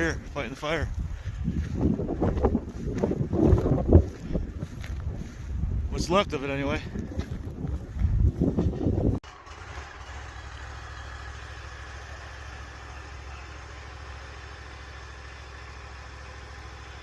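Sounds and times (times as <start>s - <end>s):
vehicle engine idling: 0.0s - 5.9s, 6.7s - 17.0s.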